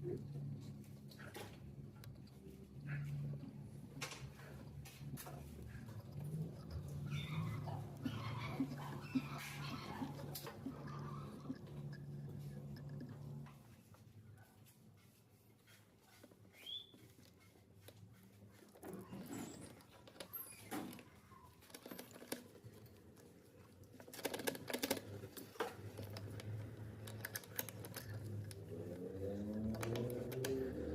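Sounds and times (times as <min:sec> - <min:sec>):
handling clicks and rustles: 0:00.0 - 0:30.9.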